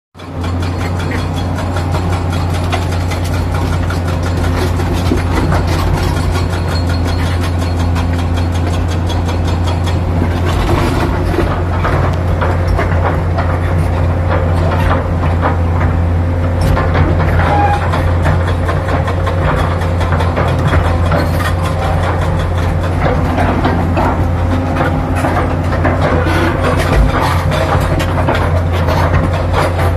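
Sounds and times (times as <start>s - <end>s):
excavator diesel engine droning: 0.2s - 29.9s.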